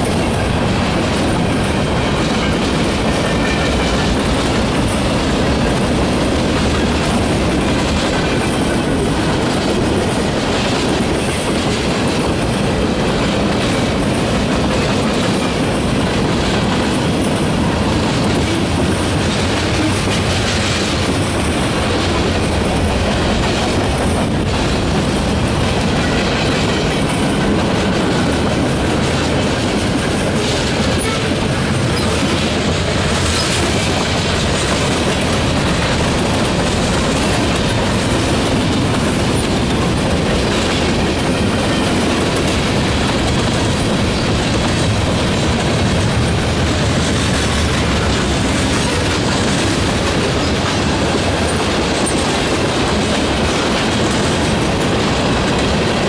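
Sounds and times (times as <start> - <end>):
freight train wheels clattering on rails: 0.0 - 56.0.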